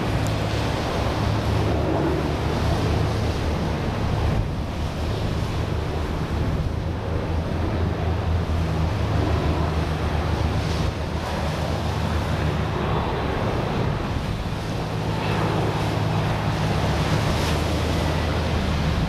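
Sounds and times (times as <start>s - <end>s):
low droning hum: 0.0s - 19.0s
sea surf: 0.0s - 19.0s
wind buffeting microphone: 0.0s - 19.0s.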